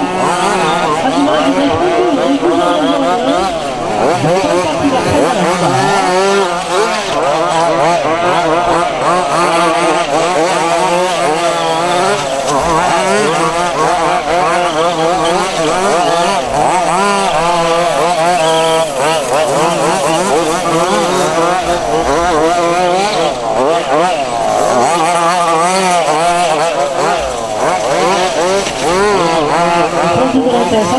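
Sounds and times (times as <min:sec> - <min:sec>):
small two-stroke engines revving: 0:00.0 - 0:30.9.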